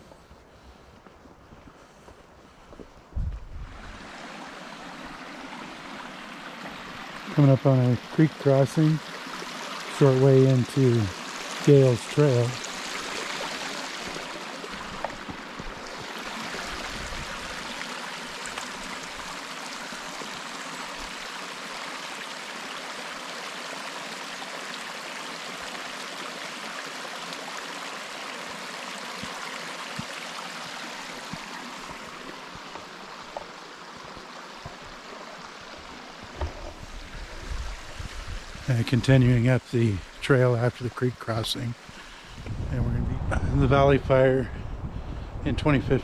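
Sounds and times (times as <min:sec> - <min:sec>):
creek water rushing: 0:03.5 - 0:46.0.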